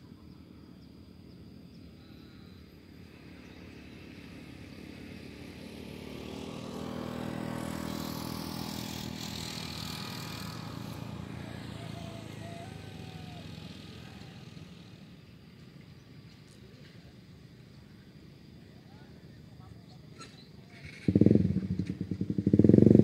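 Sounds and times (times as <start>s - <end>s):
vehicle engine approaching: 0.7s - 18.6s, 19.2s - 23.0s.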